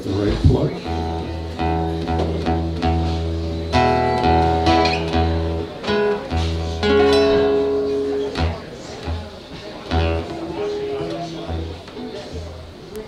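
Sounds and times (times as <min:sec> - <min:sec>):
acoustic guitar strummed: 0:00.3 - 0:12.7.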